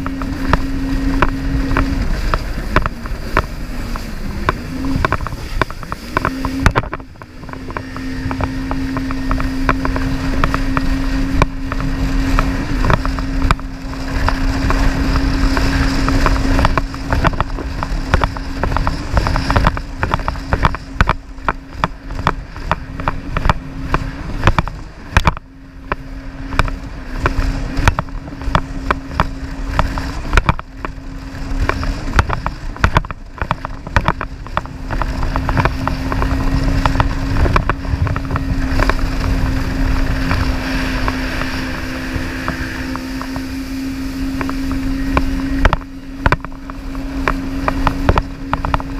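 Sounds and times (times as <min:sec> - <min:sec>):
irregular knocks and buffeting: 0:00.0 - 0:48.9
jet ski engine running: 0:00.0 - 0:48.9.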